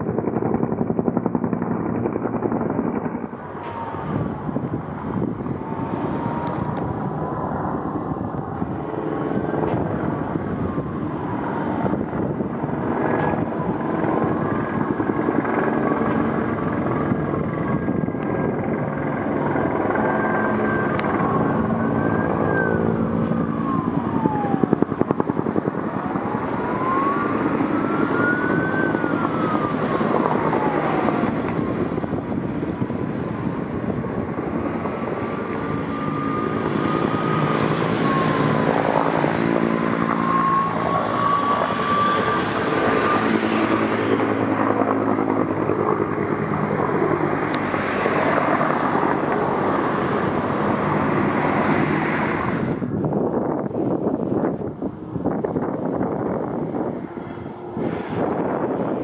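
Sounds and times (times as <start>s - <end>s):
fire truck siren wailing: 0.0s - 59.0s
helicopter flying overhead: 0.0s - 59.0s.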